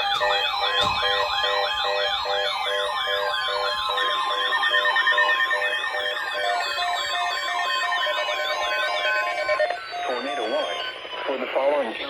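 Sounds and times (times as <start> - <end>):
electronic siren warble: 0.0 - 11.7
electronic siren yelp: 0.0 - 12.0
slow falling siren glide: 0.0 - 12.0.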